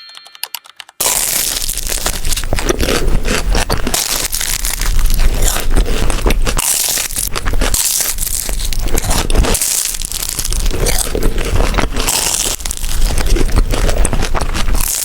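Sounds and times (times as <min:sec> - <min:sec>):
crisp pastry being bitten and chewed: 0:01.0 - 0:15.0.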